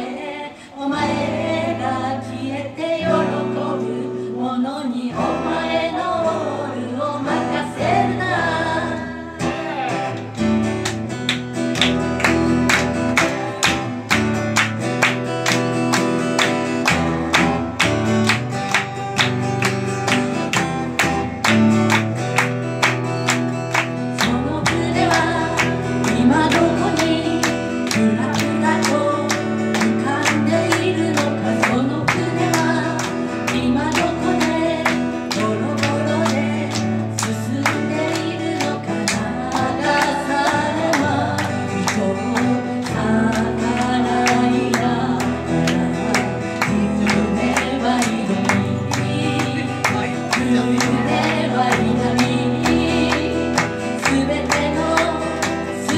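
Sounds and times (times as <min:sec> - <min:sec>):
acoustic guitar strumming: 0:05.1 - 0:55.9.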